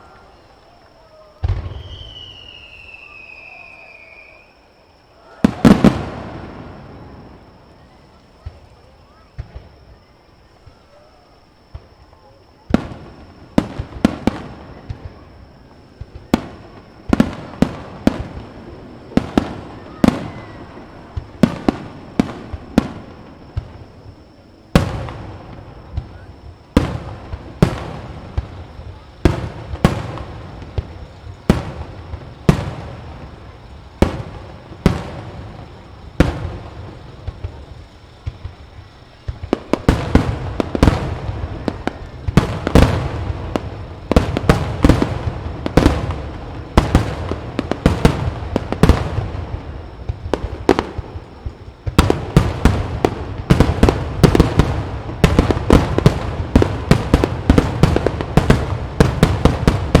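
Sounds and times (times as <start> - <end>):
fireworks exploding: 0.0 - 60.0.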